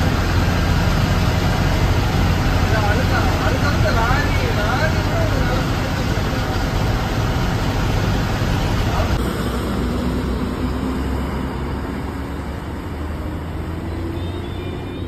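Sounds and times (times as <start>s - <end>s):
bus engine and road rumble: 0.0s - 15.0s
bus engine pulling away: 0.0s - 15.0s.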